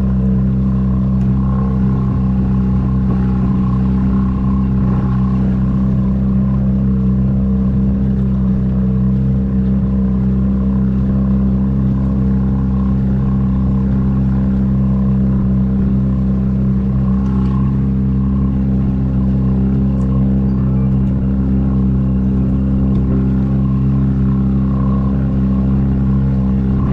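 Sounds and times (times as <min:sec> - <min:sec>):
vehicle engine droning: 0:00.0 - 0:26.9.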